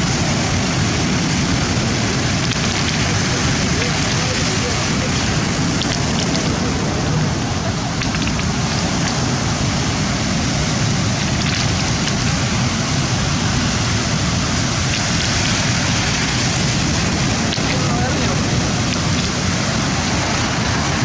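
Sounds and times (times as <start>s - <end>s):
sea surf washing on shore: 0.0s - 21.0s.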